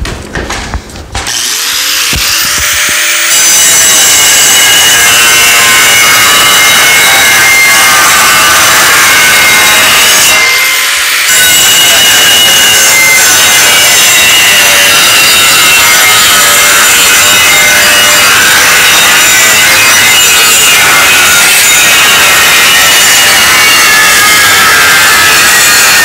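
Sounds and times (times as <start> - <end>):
angle grinder cutting metal: 1.2 - 26.0.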